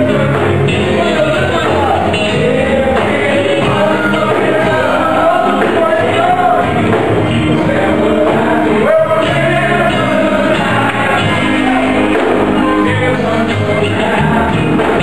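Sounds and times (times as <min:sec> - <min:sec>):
band playing: 0:00.0 - 0:15.0
electric bass guitar: 0:00.0 - 0:15.0
group of singers: 0:00.0 - 0:15.0.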